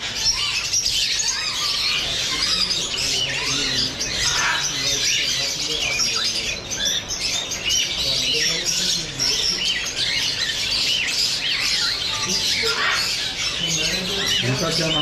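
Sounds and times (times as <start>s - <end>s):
caged birds chirping and squawking: 0.0s - 15.0s.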